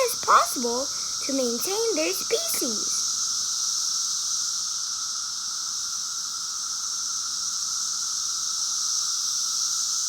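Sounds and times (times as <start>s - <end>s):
cicada chorus: 0.0s - 10.0s.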